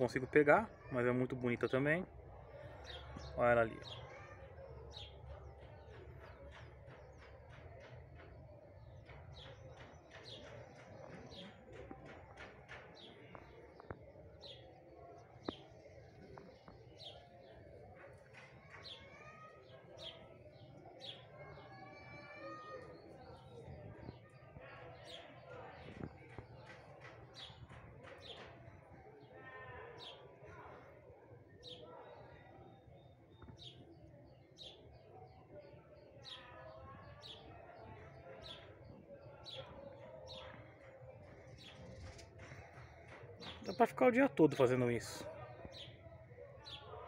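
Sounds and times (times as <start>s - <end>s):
faint birds chirping: 0.0s - 47.0s.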